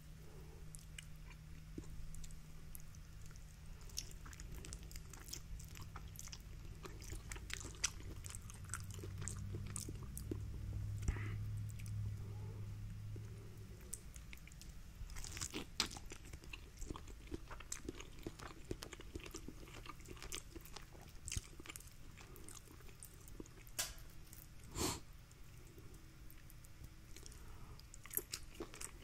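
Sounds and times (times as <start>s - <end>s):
chewing with wet mouth clicks: 0.7s - 12.0s, 13.2s - 24.6s, 25.3s - 29.0s.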